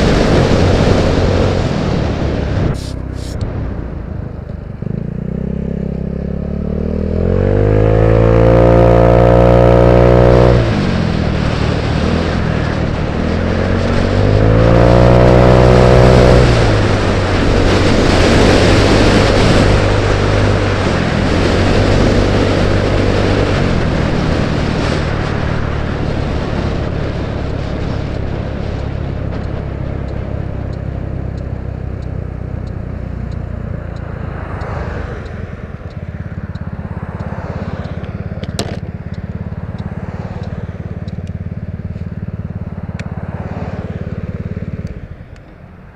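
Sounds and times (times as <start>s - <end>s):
scooter engine accelerating: 0.0s - 45.9s
wind rushing over microphone: 0.0s - 45.9s.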